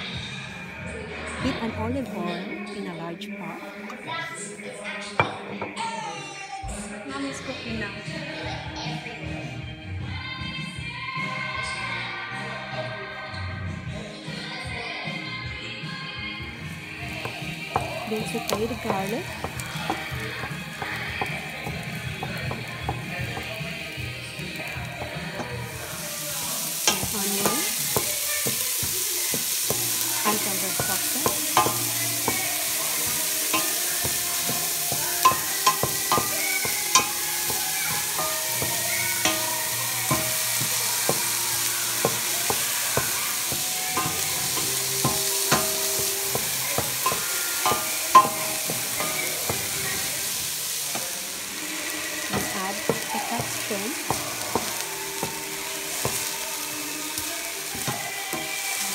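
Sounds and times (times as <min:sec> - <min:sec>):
garlic and onion sizzling in oil: 0:01.2 - 0:58.9.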